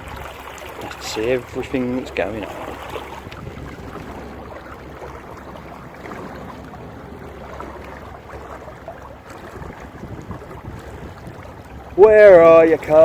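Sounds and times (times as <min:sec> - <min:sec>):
boat motor hum: 0:00.0 - 0:13.0
water noise: 0:00.0 - 0:13.0
wind noise: 0:00.0 - 0:13.0.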